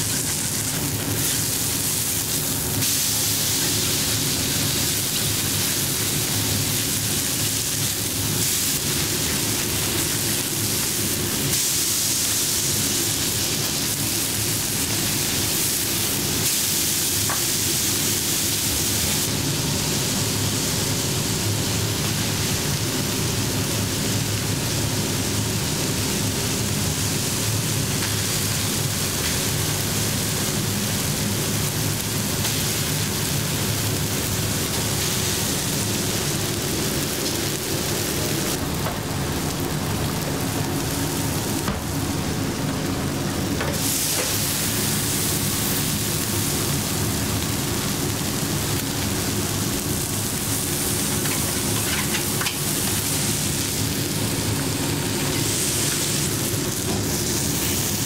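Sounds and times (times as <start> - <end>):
burger patties sizzling on griddle: 0.0 - 58.0.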